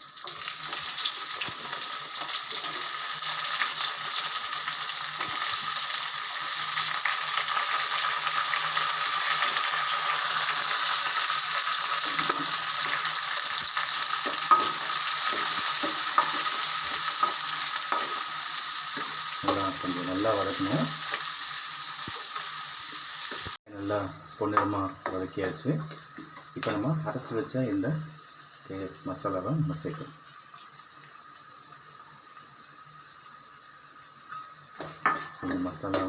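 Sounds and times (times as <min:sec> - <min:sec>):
onions sizzling in oil: 0:00.0 - 0:36.0.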